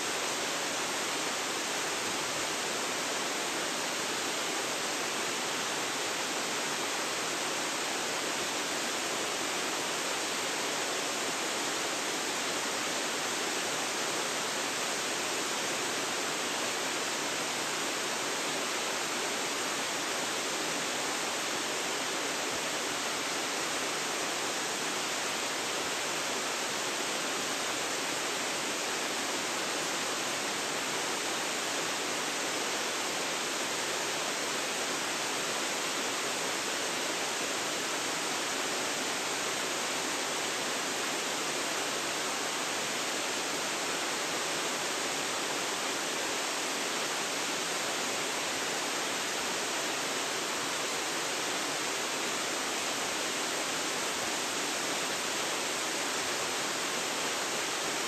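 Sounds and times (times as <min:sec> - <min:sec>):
waterfall hissing: 0:00.0 - 0:58.0.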